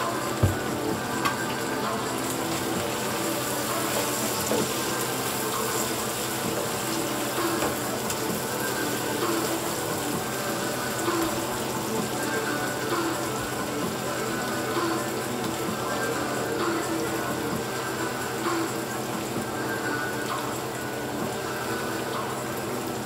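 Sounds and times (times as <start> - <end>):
sauce bubbling and sizzling in pan: 0.0 - 23.0.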